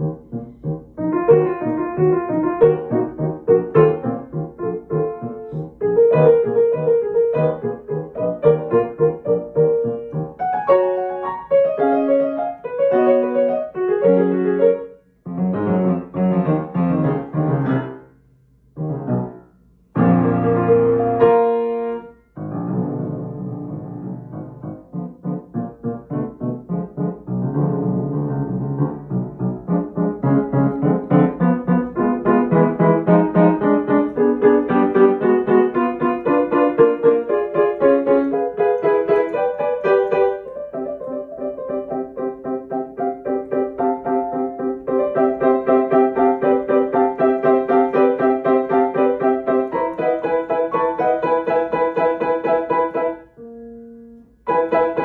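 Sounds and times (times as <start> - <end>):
solo piano: 0.0 - 55.0.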